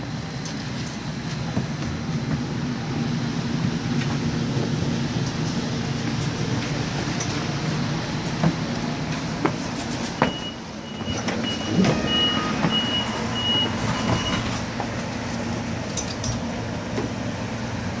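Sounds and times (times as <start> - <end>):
train low hum: 0.0 - 18.0.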